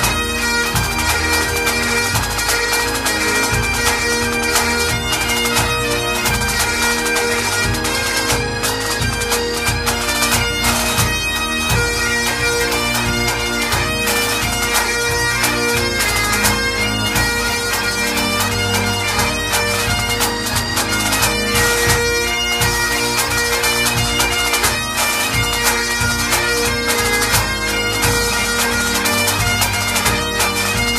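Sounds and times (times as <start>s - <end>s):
bagpipes playing over drones: 0.0s - 30.9s.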